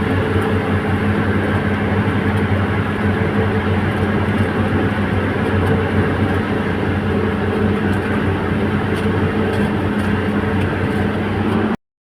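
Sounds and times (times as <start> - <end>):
diesel engine droning: 0.0 - 11.8.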